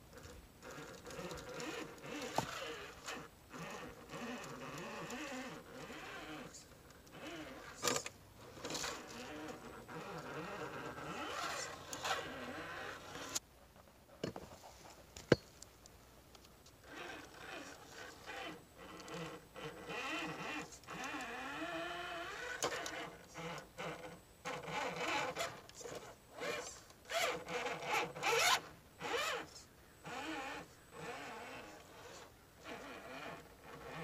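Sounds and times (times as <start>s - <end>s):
electric motor whining: 0.6s - 13.4s, 16.8s - 34.0s.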